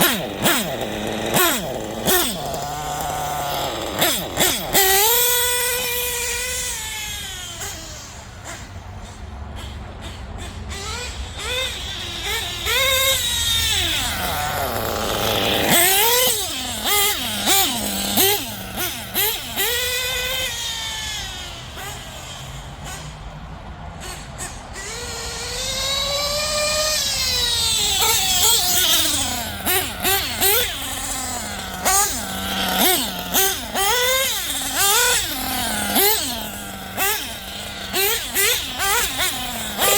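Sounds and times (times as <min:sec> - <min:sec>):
nitro engine high-pitched whine: 0:00.0 - 0:39.9.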